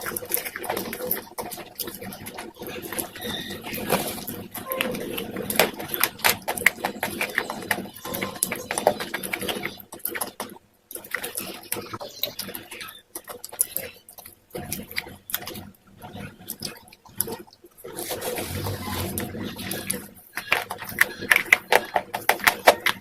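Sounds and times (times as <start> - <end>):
crunching and chewing: 0.0 - 23.0.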